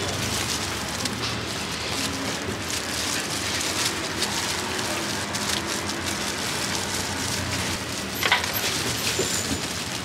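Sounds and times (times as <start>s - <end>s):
plastic gloves rustling: 0.0s - 10.0s.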